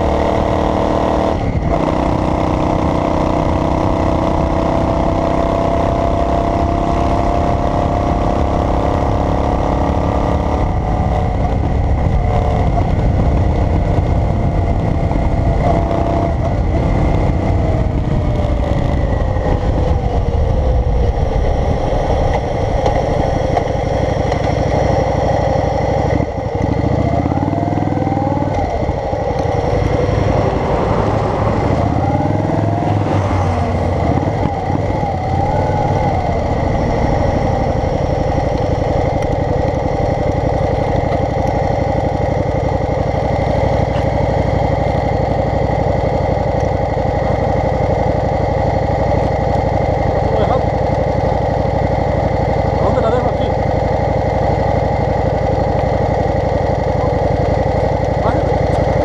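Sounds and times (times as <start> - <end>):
road noise: 0.0 - 59.0
vehicle engine accelerating: 0.0 - 59.0.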